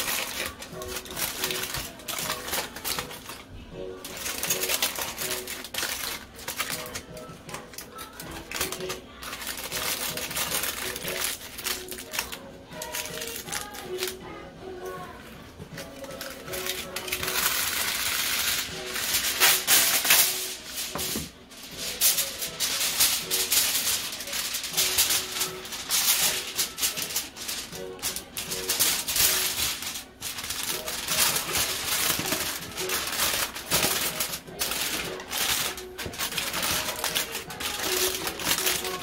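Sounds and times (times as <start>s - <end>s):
aluminium foil crinkling: 0.0s - 14.2s, 15.8s - 39.0s.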